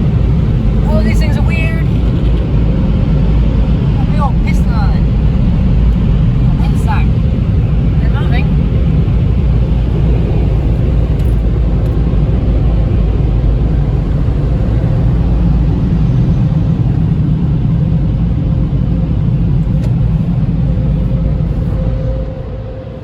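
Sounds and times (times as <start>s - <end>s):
car wash dryer blowers: 0.0s - 23.0s.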